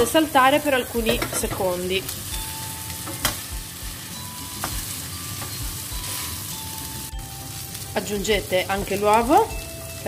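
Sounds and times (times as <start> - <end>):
rice sizzling in a frying pan: 0.0 - 10.0.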